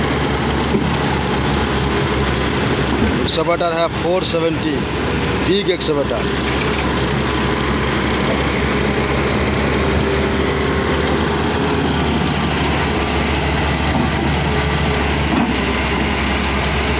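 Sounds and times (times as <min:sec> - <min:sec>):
excavator engine and hydraulics droning: 0:00.0 - 0:16.9.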